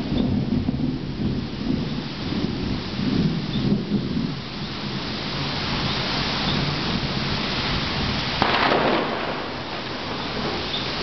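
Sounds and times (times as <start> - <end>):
low rumble of thunder: 0.0 - 11.0
steady rain: 0.0 - 11.0.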